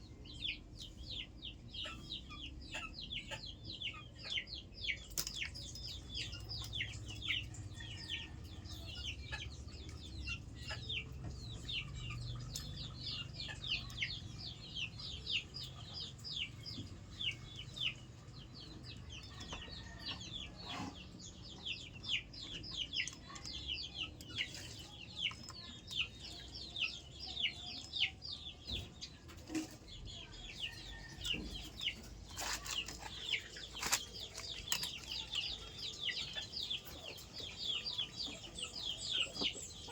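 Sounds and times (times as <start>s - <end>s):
chickens chirping: 0.0s - 39.9s.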